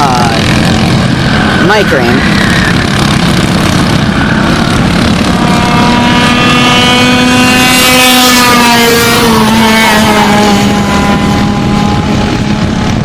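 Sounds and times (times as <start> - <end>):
go-kart engines at high revs: 0.0 - 13.0.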